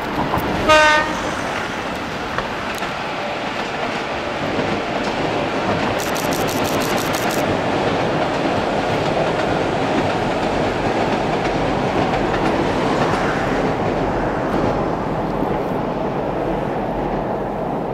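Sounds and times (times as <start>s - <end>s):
train wheels rumbling on rail: 0.0s - 17.9s.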